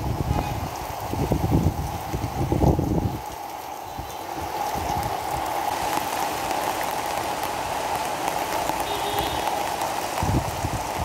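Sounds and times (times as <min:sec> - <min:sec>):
rain pattering on hardboard: 0:00.0 - 0:11.0.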